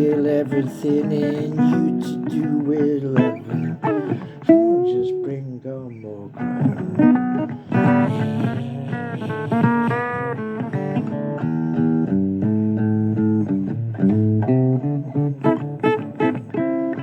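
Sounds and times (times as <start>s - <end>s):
blues guitar notes: 0.0s - 17.0s.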